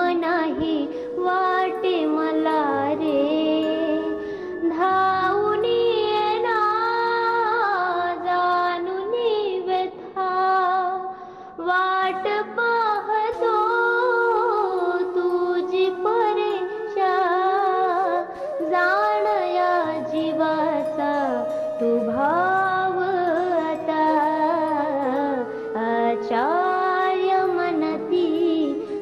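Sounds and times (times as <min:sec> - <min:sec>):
devotional melody with gliding notes: 0:00.0 - 0:29.0.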